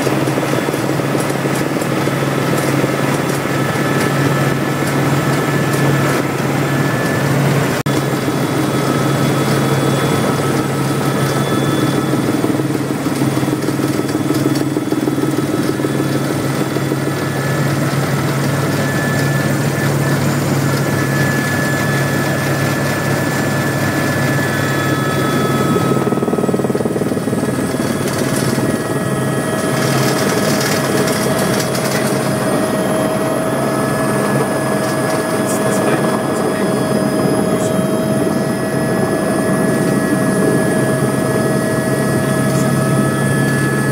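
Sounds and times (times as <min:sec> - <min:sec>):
helicopter engine and rotors: 0:00.0 - 0:43.9.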